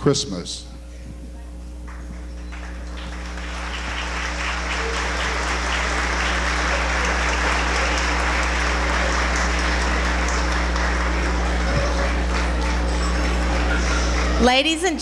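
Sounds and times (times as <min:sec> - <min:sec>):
audience applauding: 0:01.8 - 0:15.0.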